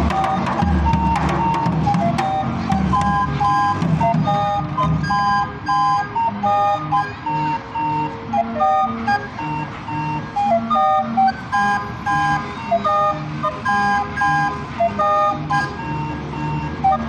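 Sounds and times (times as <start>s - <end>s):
barrel organ playing a bouncy tune: 0.0s - 17.0s.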